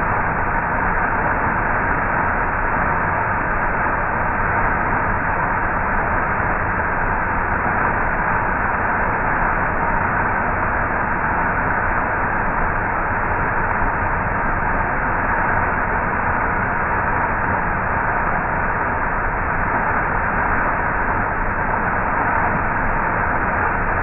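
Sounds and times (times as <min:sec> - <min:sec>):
small waterfall rushing: 0:00.0 - 0:24.0.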